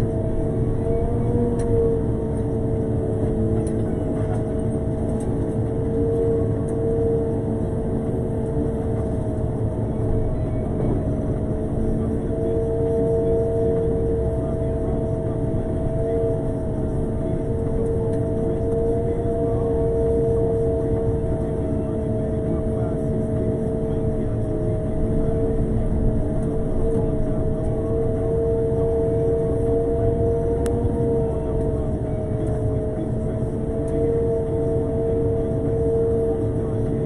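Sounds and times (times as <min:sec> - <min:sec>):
road sweeper engine rumble and whine: 0:00.0 - 0:37.0.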